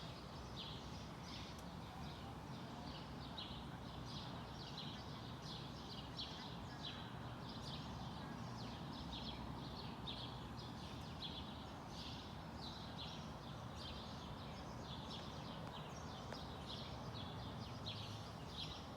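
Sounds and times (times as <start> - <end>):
small birds chirping: 0.0 - 18.9
distant traffic hum: 0.1 - 18.9.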